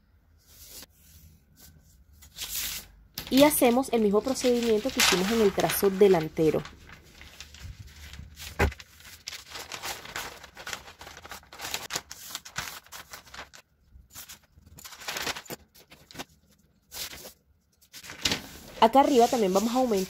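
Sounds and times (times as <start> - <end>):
paper rustling and sliding: 0.4 - 20.0.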